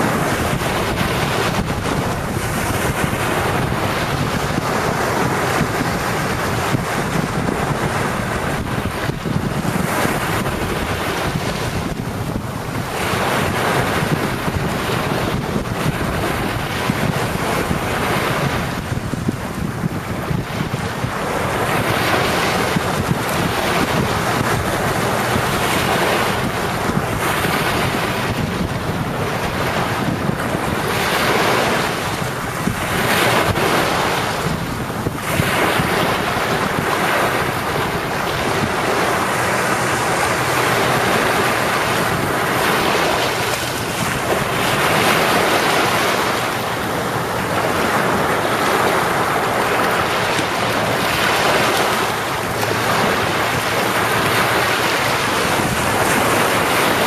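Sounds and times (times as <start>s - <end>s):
sea waves breaking: 0.0s - 57.0s
wind buffeting microphone: 0.0s - 57.0s.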